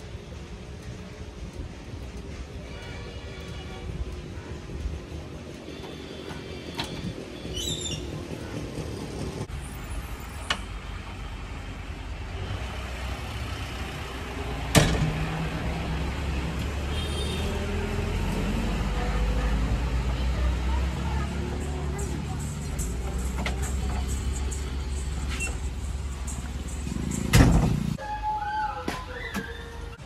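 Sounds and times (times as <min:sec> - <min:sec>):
diesel engine rumbling: 0:00.0 - 0:28.0.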